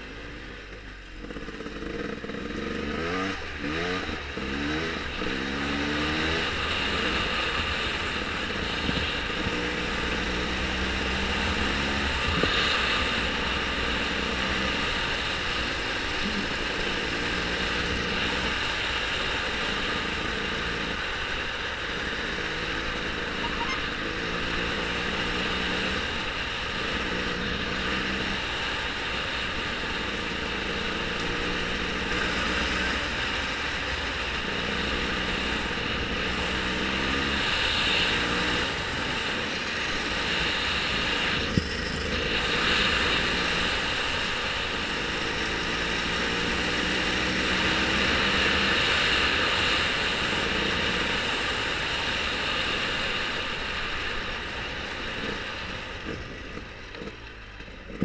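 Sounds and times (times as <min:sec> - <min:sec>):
vehicle engine running: 0:00.0 - 0:58.0
wind or road noise: 0:00.0 - 0:58.0.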